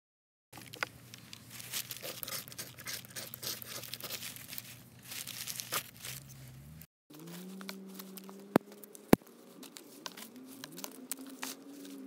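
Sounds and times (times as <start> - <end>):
paper crinkling: 0.6 - 6.5, 7.1 - 12.0.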